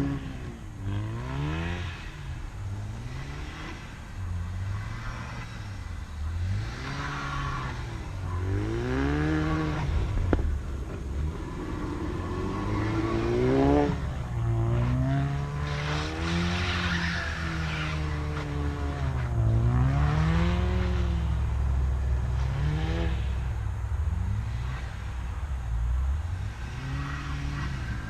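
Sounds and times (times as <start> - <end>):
car engine accelerating hard: 0.0 - 28.0
exhaust crack: 0.0 - 28.0.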